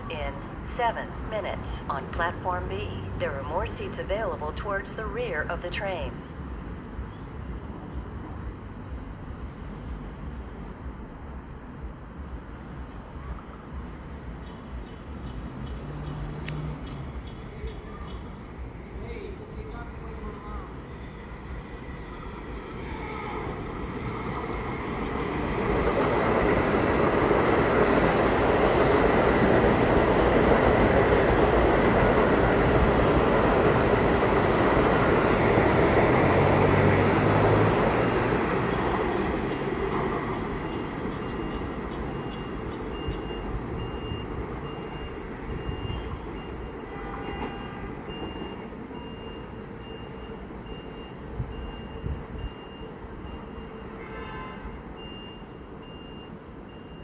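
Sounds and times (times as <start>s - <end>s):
electric train passing: 0.0s - 57.0s.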